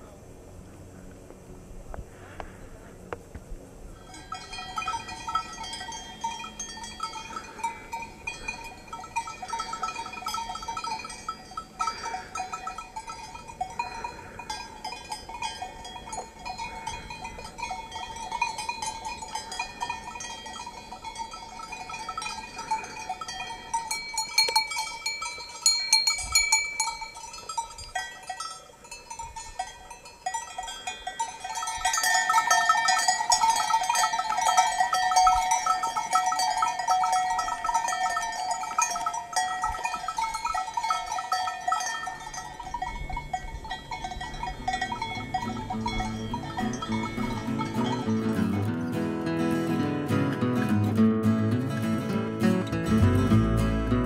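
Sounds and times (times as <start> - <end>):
sheep bells clanking: 3.9 - 51.0.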